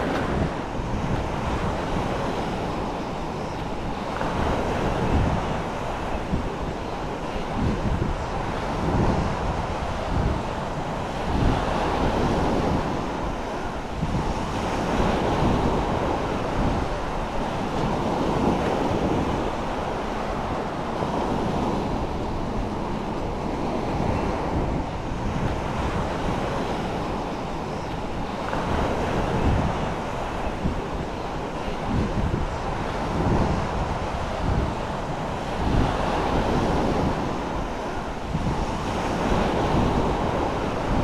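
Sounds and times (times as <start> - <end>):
surf breaking on sandy shore: 0.0 - 41.0
wind buffeting microphone: 0.0 - 41.0.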